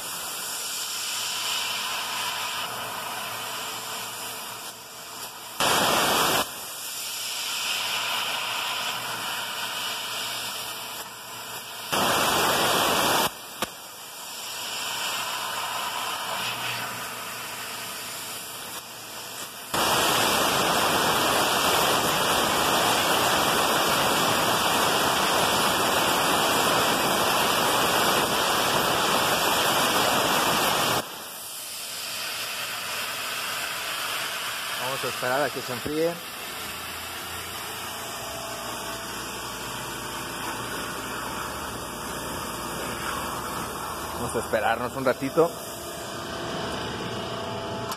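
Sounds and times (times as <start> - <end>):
plasma torch hissing: 0.0 - 46.9.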